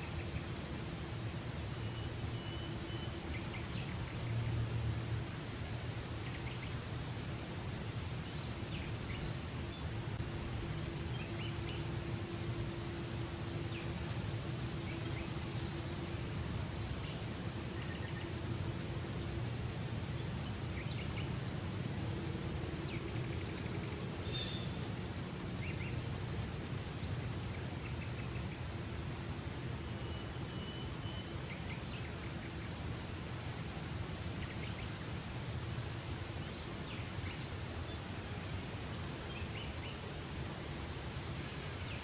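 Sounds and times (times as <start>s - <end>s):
low hum: 0.0s - 42.0s
birds chirping: 1.4s - 42.0s.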